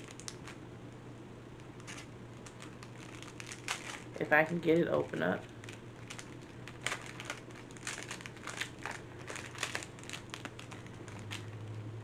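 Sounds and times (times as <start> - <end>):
plastic packaging crinkling: 0.0 - 0.6, 1.6 - 11.9
faint low hum: 0.0 - 12.0.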